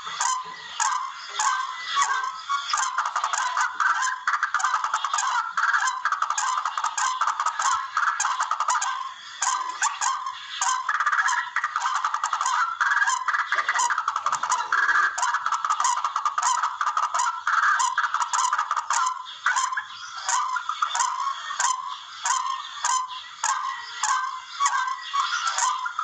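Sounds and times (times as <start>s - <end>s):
bird calling rapidly: 0.0s - 26.0s.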